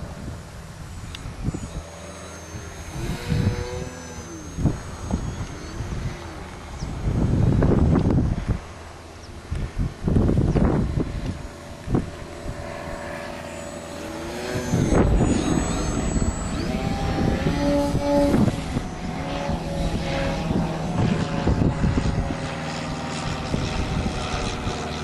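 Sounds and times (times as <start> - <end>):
model plane motor buzzing: 0.0 - 25.0
wind rumble on microphone: 0.0 - 25.0.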